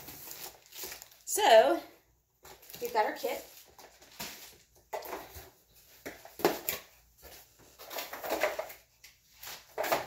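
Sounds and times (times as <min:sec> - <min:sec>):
rustling cardboard and plastic packaging: 0:00.0 - 0:10.0.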